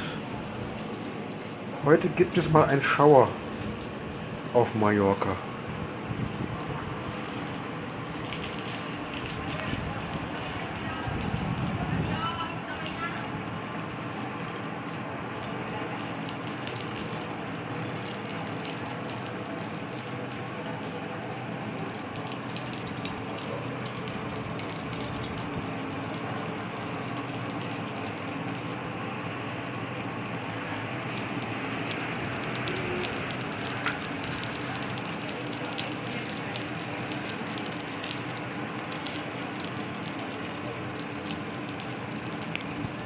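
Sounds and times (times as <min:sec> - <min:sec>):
drips and splashes: 0:00.0 - 0:43.0
rain falling: 0:00.0 - 0:43.0.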